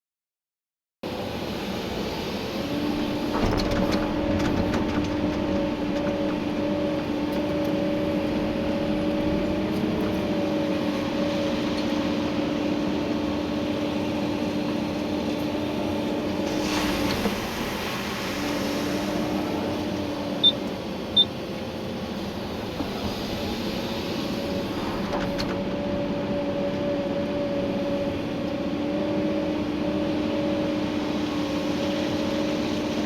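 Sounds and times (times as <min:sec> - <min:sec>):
excavator engine and hydraulics: 0:01.0 - 0:33.0.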